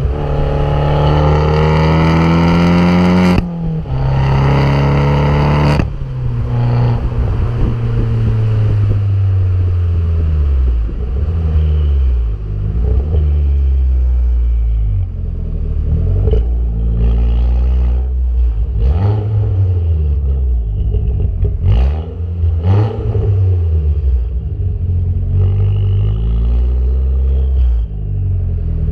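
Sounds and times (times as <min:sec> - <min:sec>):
exhaust cracks: 0:00.0 - 0:28.3
car engine revving: 0:00.0 - 0:28.9.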